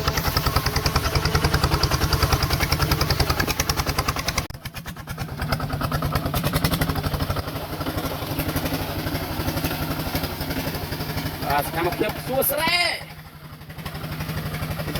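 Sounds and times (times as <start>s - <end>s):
small tractor engine chugging: 0.0s - 14.9s.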